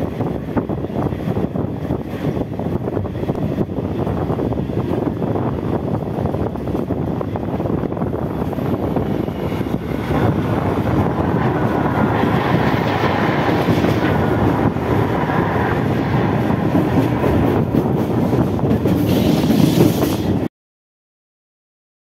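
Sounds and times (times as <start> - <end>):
train wheels rumbling on rail: 0.0 - 20.5.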